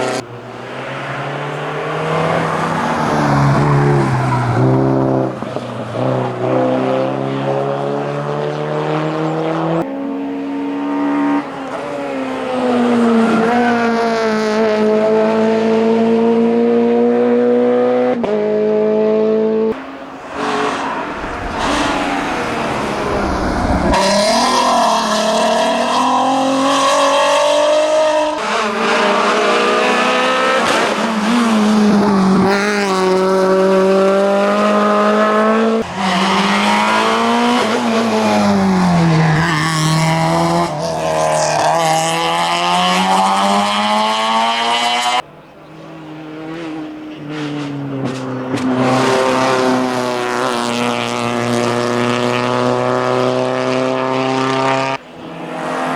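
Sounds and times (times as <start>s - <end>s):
racing car engines revving: 0.0s - 55.9s.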